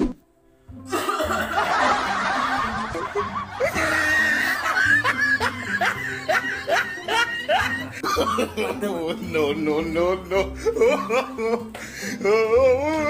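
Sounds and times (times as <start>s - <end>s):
music playing: 0.0s - 13.0s
person laughing: 0.9s - 13.0s.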